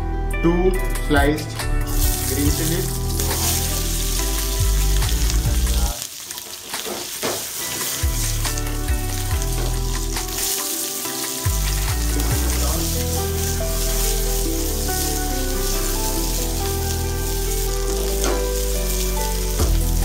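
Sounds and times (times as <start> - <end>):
background music with heavy bass: 0.0 - 5.9, 8.0 - 20.0
chilies and onion sizzling in oil: 1.8 - 20.0.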